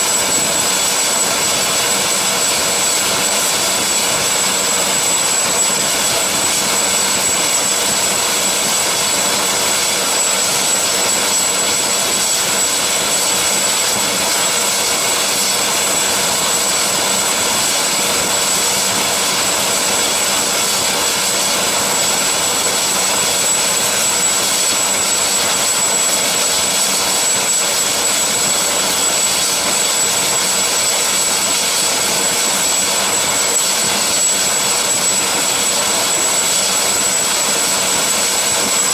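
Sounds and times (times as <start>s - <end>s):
helicopter turbine whine: 0.0s - 38.9s.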